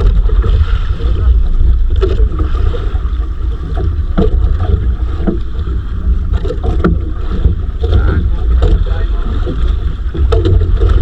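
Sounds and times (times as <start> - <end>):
boat knocks: 0.0 - 11.0
wind buffeting microphone: 0.0 - 11.0.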